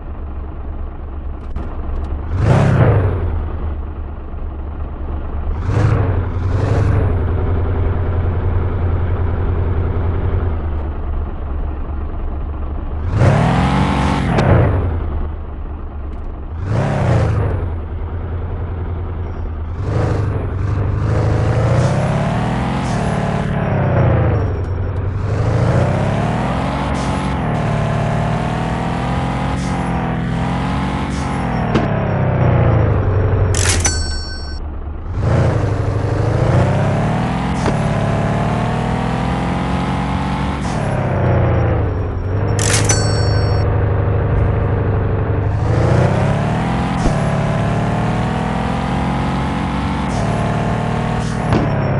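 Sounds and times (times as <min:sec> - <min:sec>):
van engine accelerating: 0:00.0 - 0:51.9.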